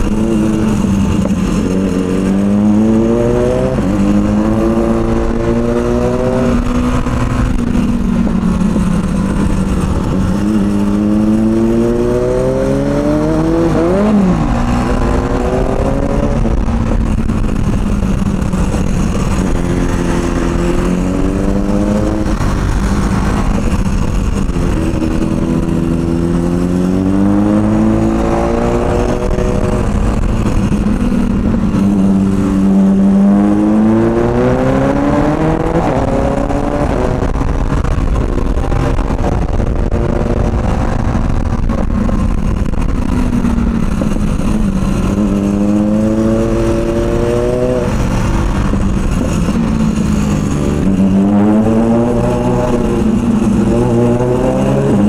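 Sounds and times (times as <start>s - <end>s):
motorcycle engine accelerating: 0.0s - 55.0s
wind rumble on microphone: 0.0s - 55.0s.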